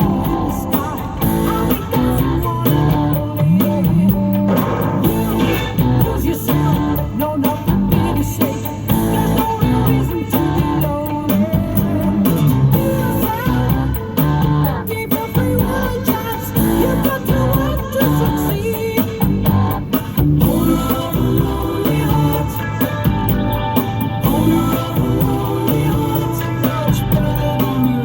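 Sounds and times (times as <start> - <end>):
pop song with guitar and singing: 0.0 - 28.0.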